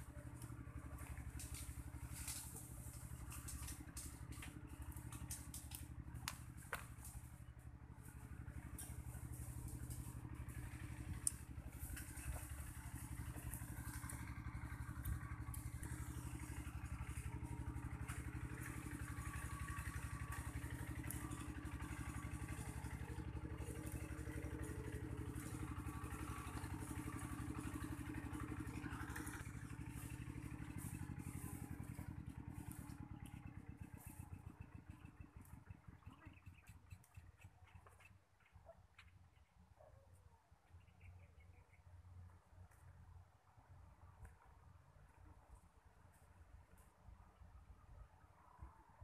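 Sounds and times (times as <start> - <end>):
engine running with low pulsing: 0.0 - 49.0.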